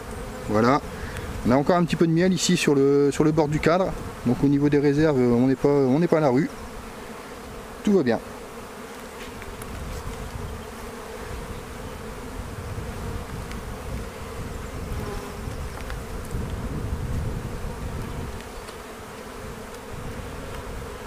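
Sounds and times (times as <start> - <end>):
honeybees humming: 0.0 - 21.0.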